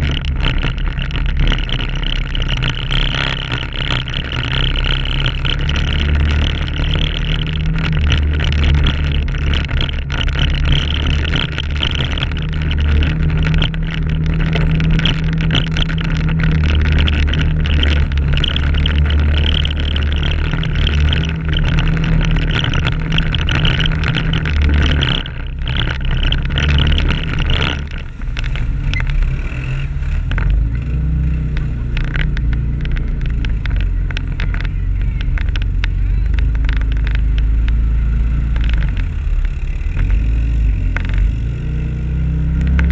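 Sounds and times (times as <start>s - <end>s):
atv engine under throttle: 0.0s - 42.9s.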